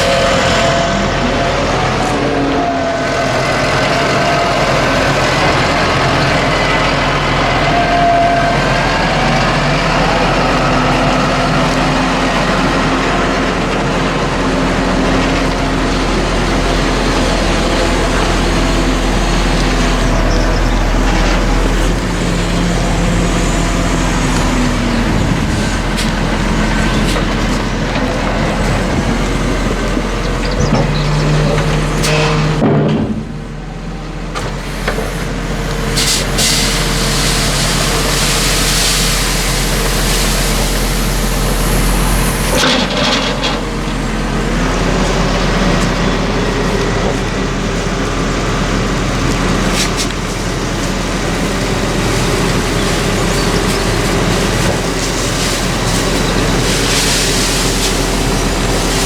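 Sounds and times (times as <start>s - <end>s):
diesel farm machine engine: 0.0s - 59.0s.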